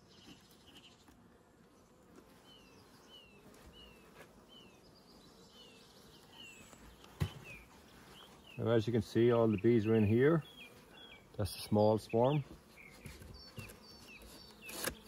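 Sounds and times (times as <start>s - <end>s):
small bird chirping: 2.4s - 15.0s.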